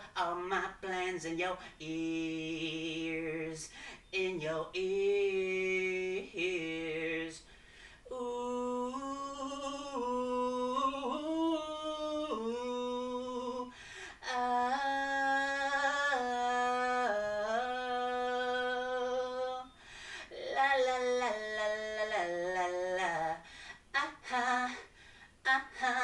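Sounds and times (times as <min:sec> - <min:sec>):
man singing wordless melody: 0:00.0 - 0:26.0.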